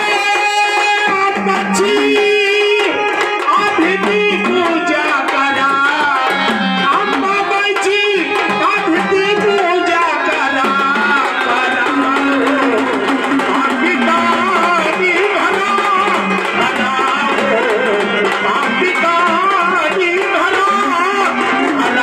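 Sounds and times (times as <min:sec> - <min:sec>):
fast dholki drumming: 0:00.0 - 0:22.0.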